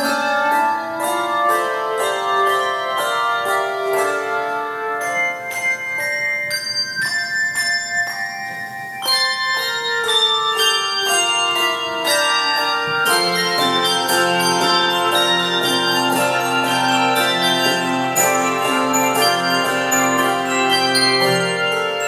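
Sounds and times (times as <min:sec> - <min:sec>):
tuned bells melody: 0:00.0 - 0:22.0.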